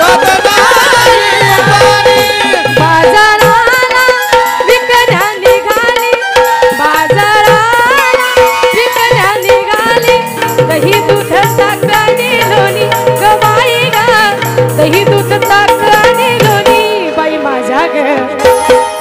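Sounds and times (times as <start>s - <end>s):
hand drum beat: 0.0s - 17.1s.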